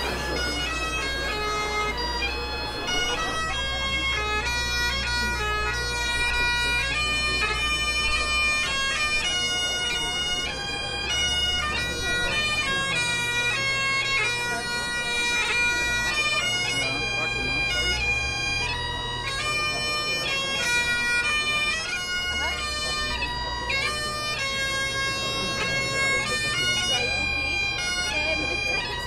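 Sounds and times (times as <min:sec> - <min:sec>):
bagpipes playing a tune: 0:00.0 - 0:29.0.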